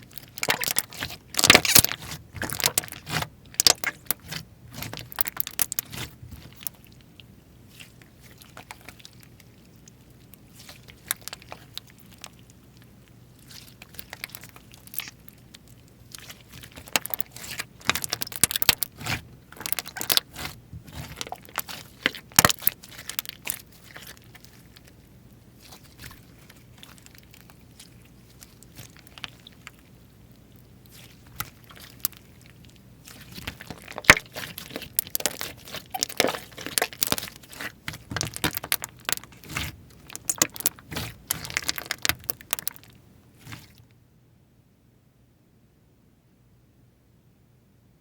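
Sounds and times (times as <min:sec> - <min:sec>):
slime squished by hand: 0:00.0 - 0:12.8, 0:13.4 - 0:43.9.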